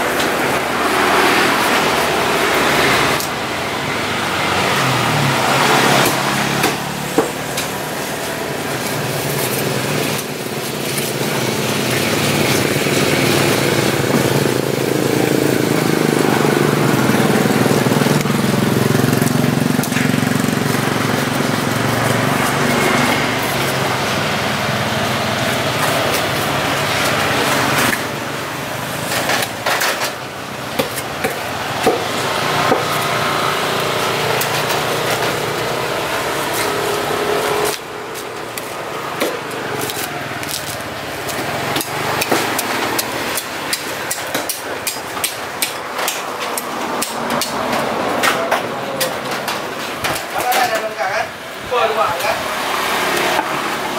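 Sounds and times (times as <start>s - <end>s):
vehicle engine running close by: 0.0s - 49.7s
street market noise: 0.0s - 53.9s.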